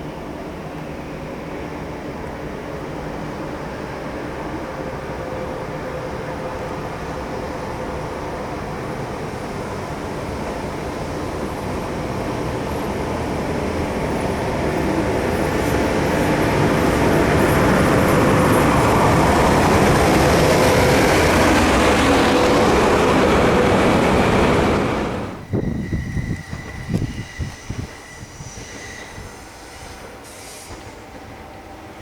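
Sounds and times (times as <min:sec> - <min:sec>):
electric locomotive humming: 0:00.0 - 0:32.0.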